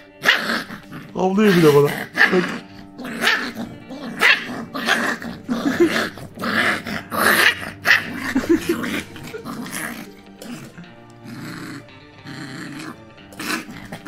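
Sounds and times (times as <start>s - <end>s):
puppy growling: 0.0s - 14.0s.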